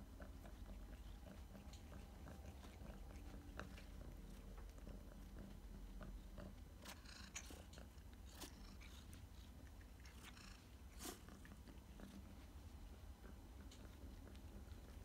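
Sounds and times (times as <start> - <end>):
kitten sniffing: 0.0 - 15.0.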